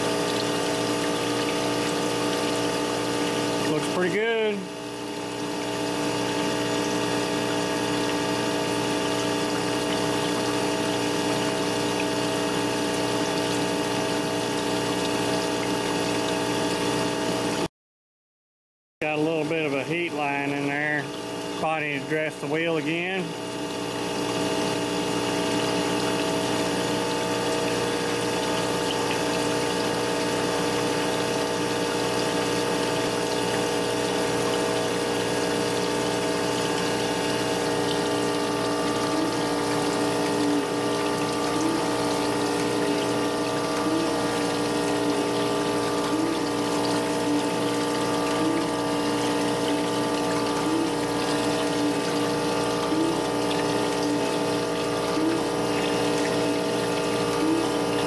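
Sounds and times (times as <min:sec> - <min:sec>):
coolant hissing and splashing: 0:00.0 - 0:17.7, 0:19.0 - 0:58.0
grinder and pump humming: 0:00.0 - 0:17.7, 0:19.0 - 0:58.0.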